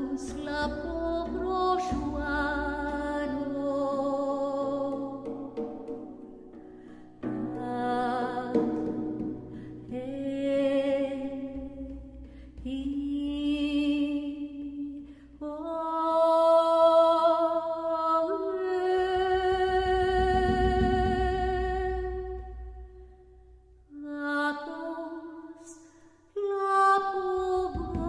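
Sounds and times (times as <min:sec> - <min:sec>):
woman singing with vibrato: 0:00.0 - 0:05.5, 0:07.4 - 0:08.9, 0:09.9 - 0:22.6, 0:23.9 - 0:25.8, 0:26.4 - 0:28.0.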